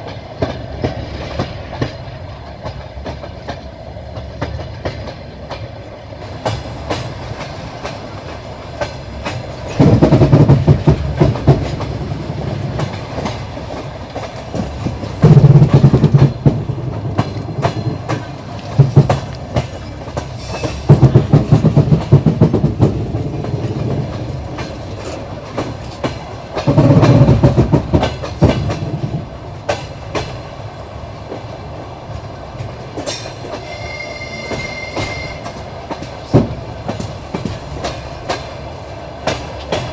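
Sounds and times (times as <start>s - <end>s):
train running rumble: 0.0s - 39.9s
train wheels clicking over rail joints: 0.0s - 39.9s.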